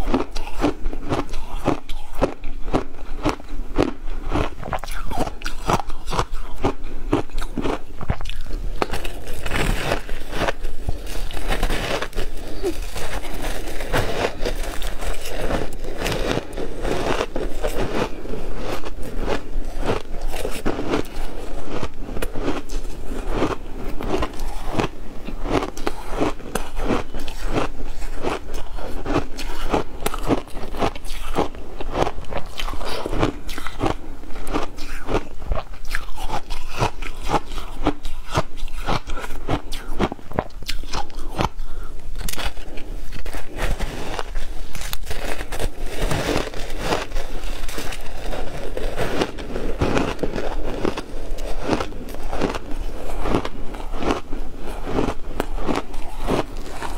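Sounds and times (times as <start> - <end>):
ice being chewed crunching: 0.0 - 56.9.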